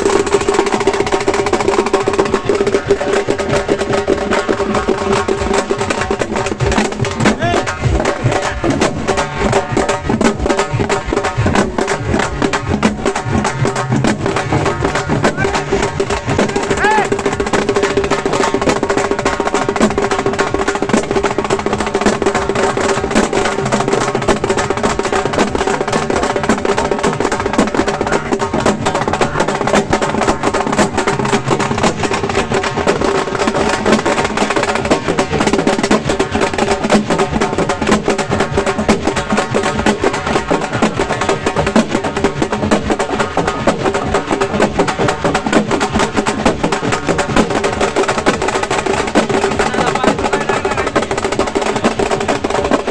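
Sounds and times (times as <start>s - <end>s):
frame drums beaten fast: 0.0s - 52.9s.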